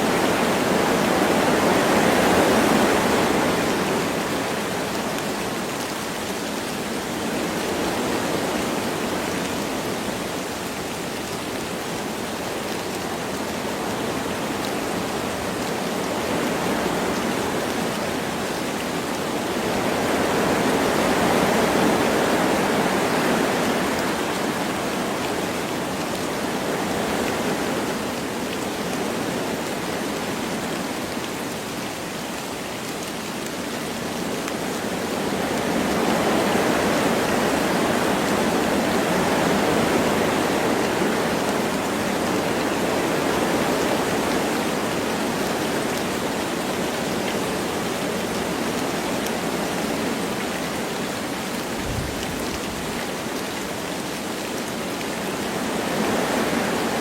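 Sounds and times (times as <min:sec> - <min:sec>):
light rain falling: 0:00.0 - 0:57.0
wind blowing through trees: 0:00.0 - 0:57.0.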